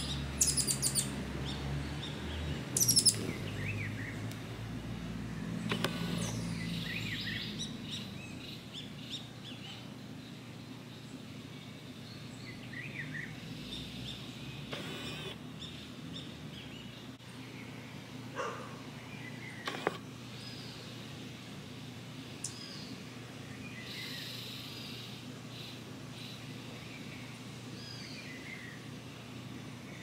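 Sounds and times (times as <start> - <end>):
birds chirping: 0.0 - 30.0
low background hum: 0.0 - 30.0.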